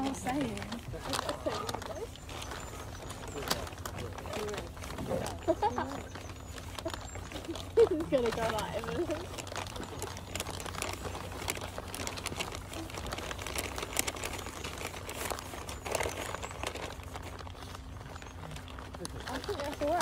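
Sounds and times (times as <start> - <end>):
paper bags crinkling: 0.0 - 20.0.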